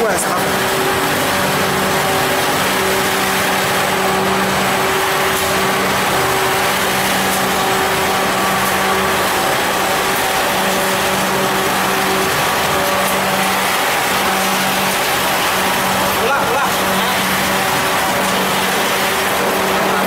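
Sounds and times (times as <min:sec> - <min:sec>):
machine hum with hiss: 0:00.0 - 0:20.0.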